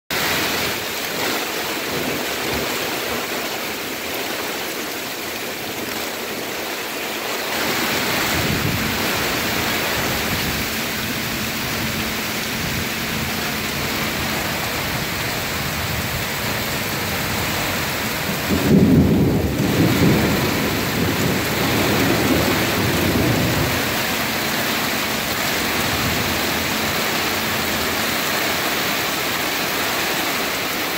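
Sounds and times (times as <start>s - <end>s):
heavy rain on pavement: 0.1s - 30.9s
thunder rumbling: 0.2s - 30.9s.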